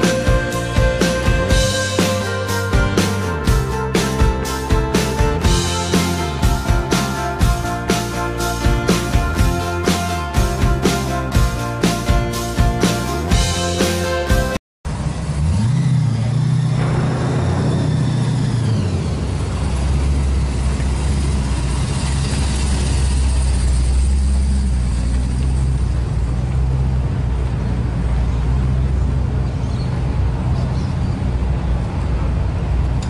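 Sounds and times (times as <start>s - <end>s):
car engine running: 0.0s - 30.6s.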